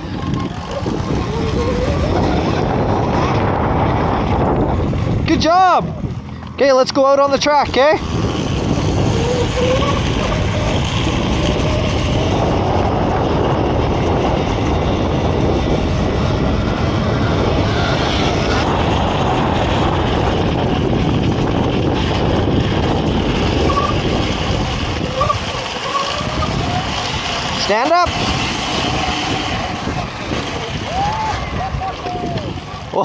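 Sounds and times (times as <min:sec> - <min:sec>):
wind rushing over microphone: 0:00.0 - 0:33.0.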